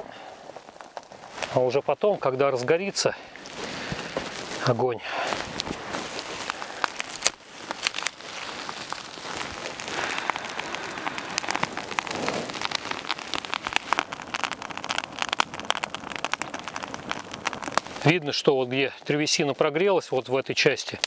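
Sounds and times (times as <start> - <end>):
fire hiss: 0.0 - 1.8, 2.4 - 21.0
campfire crackling and popping: 0.0 - 21.0.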